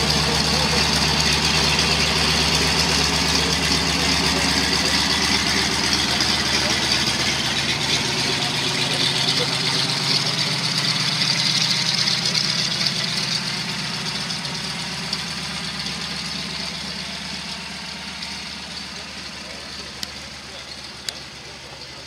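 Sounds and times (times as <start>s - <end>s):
radial aircraft engine idling: 0.0s - 22.0s.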